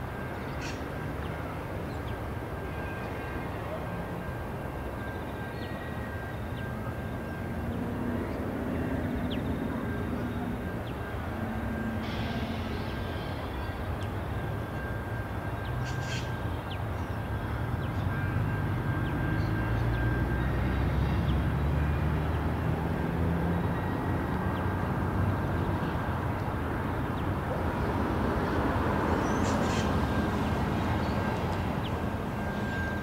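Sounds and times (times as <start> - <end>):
diesel locomotives hauling freight train: 0.0 - 33.0.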